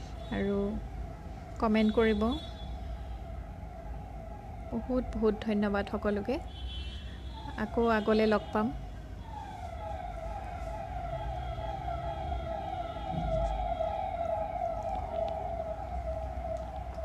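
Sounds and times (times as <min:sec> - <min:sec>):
warbling siren: 0:00.0 - 0:17.0.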